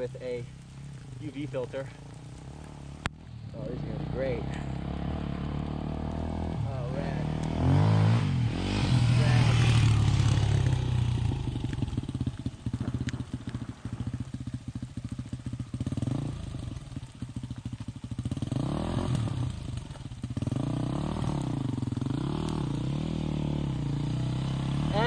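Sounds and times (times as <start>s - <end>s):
motorcycle engine: 0.0s - 25.0s.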